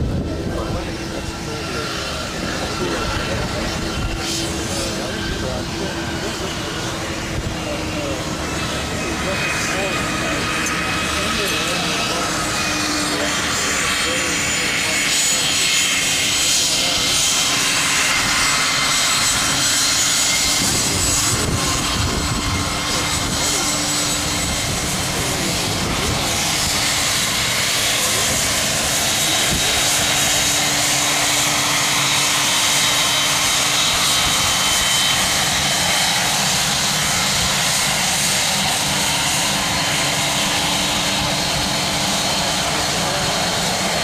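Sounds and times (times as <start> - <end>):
high jet engine whine: 0.0 - 44.0
jet engines rushing: 0.0 - 44.0.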